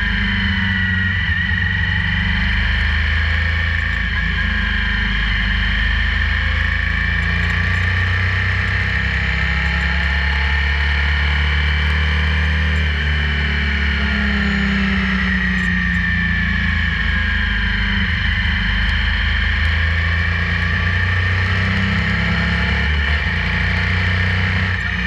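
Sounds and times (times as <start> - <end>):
motorcycle engine cruising: 0.0 - 25.0.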